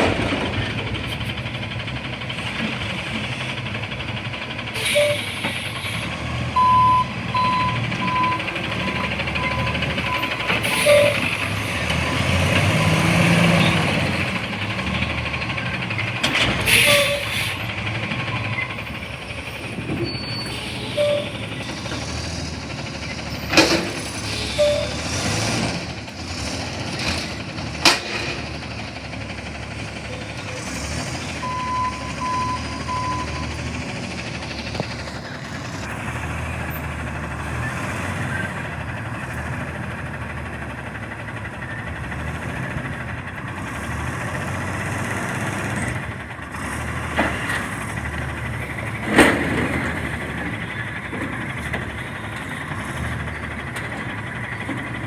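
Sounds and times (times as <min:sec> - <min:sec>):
garbage truck running: 0:00.0 - 0:55.0.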